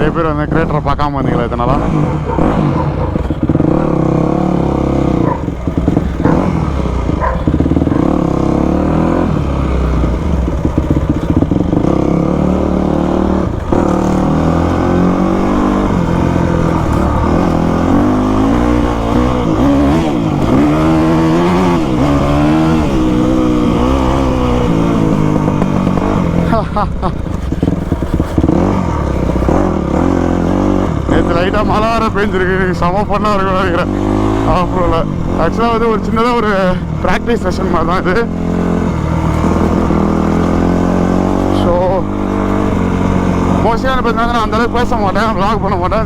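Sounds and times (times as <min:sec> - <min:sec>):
two-stroke engine revving: 0:00.0 - 0:46.0.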